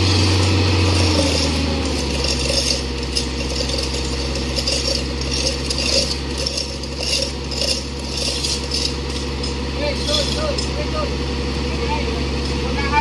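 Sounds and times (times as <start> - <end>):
diesel engine running: 0.0 - 13.0
metal parts clanking: 0.1 - 10.8.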